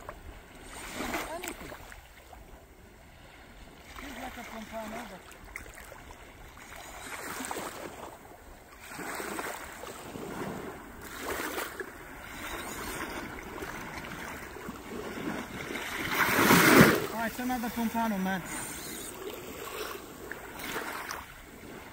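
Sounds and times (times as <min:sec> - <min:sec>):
small waves washing on sand: 0:00.0 - 0:21.9.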